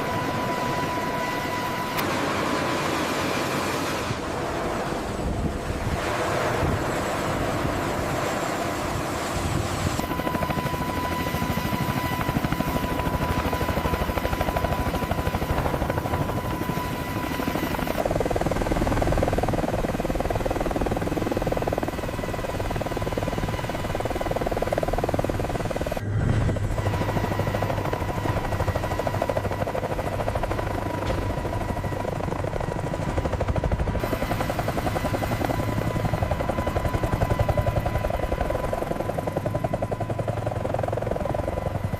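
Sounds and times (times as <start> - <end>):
helicopter rotor beating: 0.0 - 41.9
turbine whine: 0.0 - 41.9.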